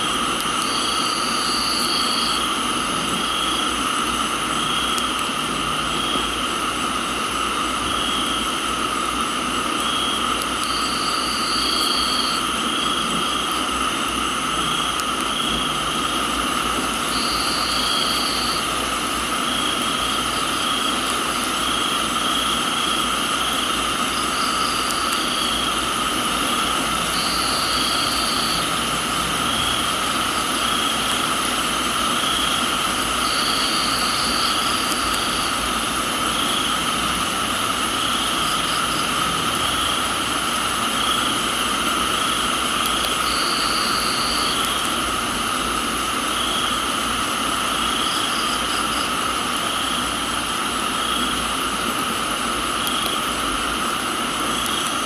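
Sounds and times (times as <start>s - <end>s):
higher insect trill: 0.0s - 45.1s
crickets and night insects trilling: 0.0s - 55.0s
rain hiss: 0.0s - 55.0s.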